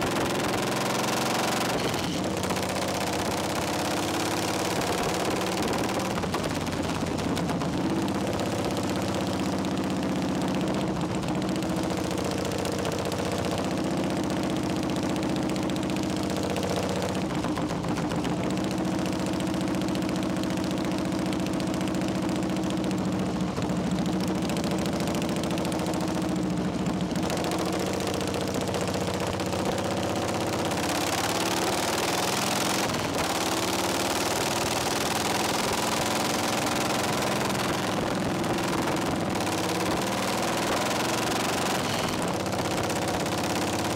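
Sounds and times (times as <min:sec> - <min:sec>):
motorcycle engine cruising: 0:00.0 - 0:43.9.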